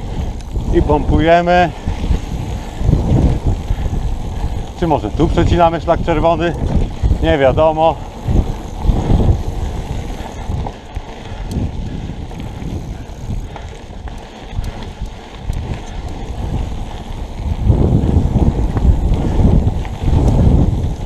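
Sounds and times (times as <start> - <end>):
bike rattling over bumps: 0.0 - 21.0
bike tyres rolling on gravel: 0.0 - 21.0
wind buffeting microphone: 0.0 - 21.0.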